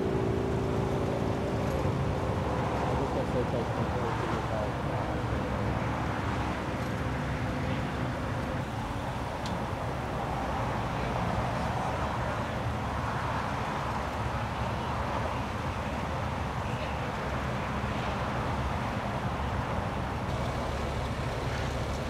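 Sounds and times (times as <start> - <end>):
freeway traffic rumble: 0.0 - 22.0.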